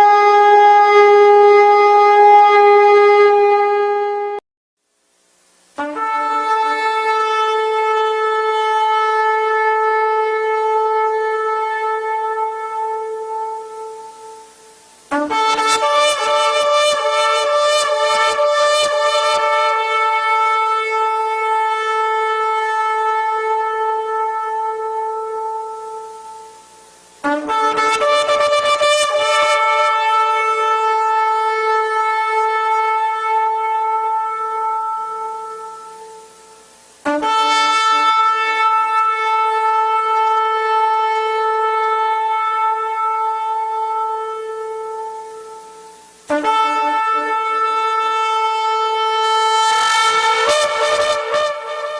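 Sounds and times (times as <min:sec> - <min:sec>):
shofar blasts: 0:00.0 - 0:04.4, 0:05.8 - 0:51.9.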